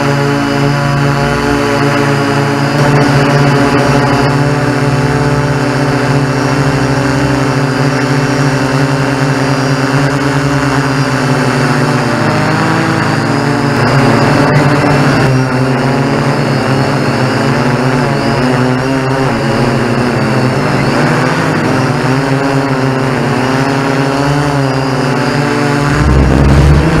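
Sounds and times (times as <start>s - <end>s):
drone propellers whirring: 0.0s - 27.0s.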